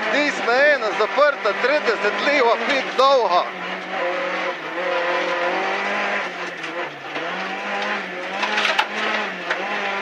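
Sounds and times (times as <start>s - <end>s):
car engine at speed: 0.0s - 10.0s
tyre noise on road: 0.0s - 10.0s.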